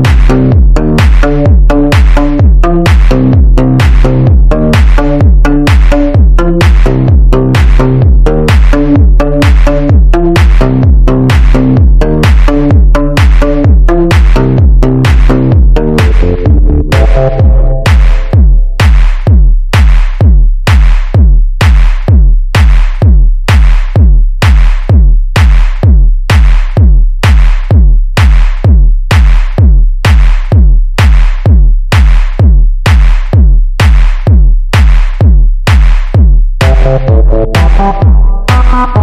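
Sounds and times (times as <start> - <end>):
techno drum-machine beat: 0.0 - 39.0.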